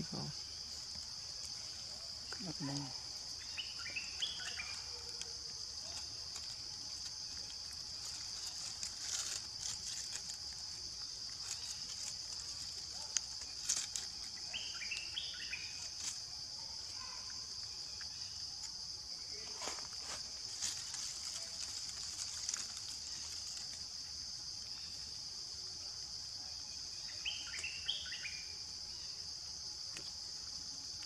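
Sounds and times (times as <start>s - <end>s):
leaves rustling: 0.0s - 25.5s
insects droning: 0.0s - 31.0s.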